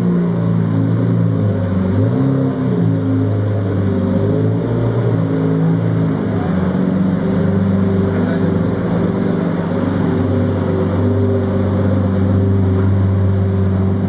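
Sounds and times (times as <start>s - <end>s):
car engine revving lightly: 0.0s - 14.0s.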